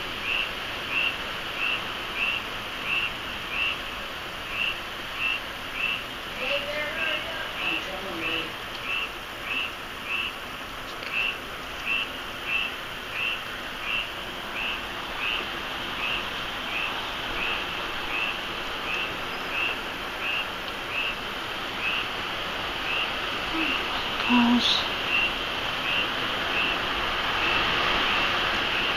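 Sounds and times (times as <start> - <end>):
steady background hiss: 0.0 - 28.9.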